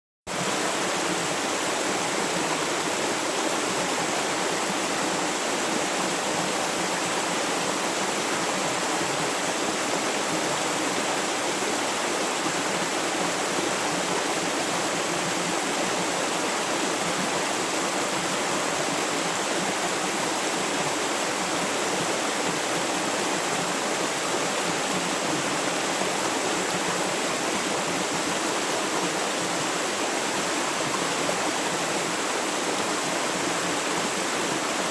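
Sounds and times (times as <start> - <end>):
river water rushing: 0.3 - 34.9.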